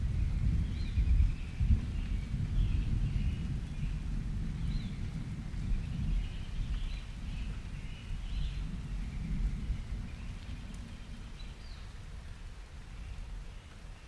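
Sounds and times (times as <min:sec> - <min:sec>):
low thunder rumble: 0:00.0 - 0:13.5.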